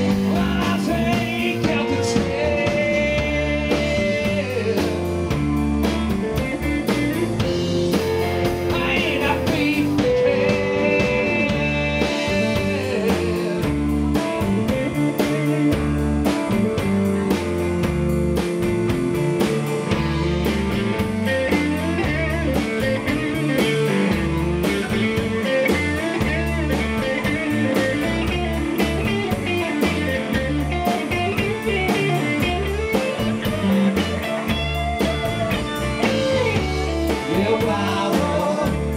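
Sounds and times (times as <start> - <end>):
drum kit: 0.0 - 38.9
electric bass: 0.0 - 38.9
electric guitars: 0.0 - 38.9.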